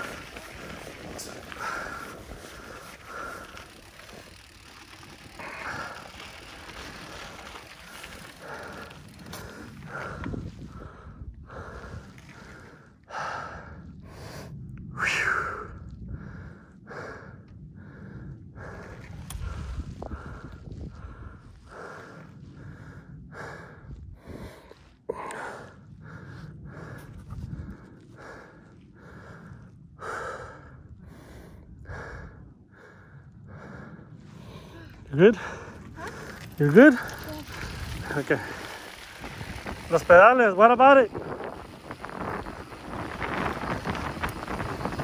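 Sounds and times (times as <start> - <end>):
person breathing hard: 0.0 - 4.4, 5.0 - 39.8.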